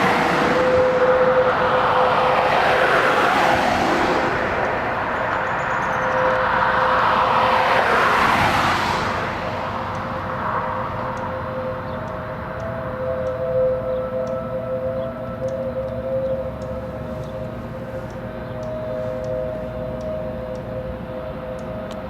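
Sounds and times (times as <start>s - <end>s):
road traffic passing: 0.0s - 22.0s
steady warning siren tone: 0.0s - 22.0s.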